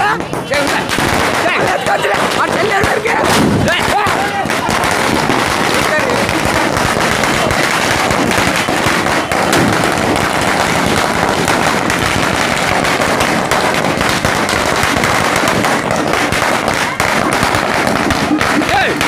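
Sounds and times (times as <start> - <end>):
firecrackers bursting: 0.0 - 19.0.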